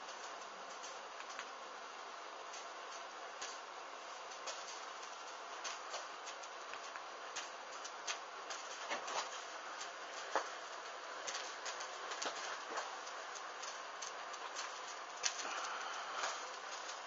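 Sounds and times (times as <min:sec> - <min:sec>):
fabric burning with crackles: 0:00.0 - 0:17.0
flame hiss: 0:00.0 - 0:17.0.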